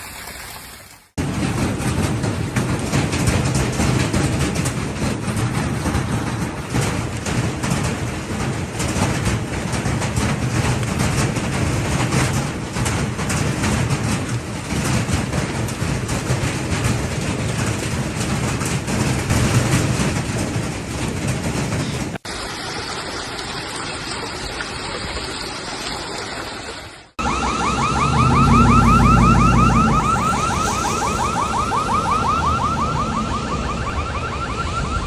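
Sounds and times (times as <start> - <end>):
deep rumble: 1.2 - 22.2, 27.5 - 35.0
hail pounding down: 1.2 - 25.9, 28.2 - 35.0.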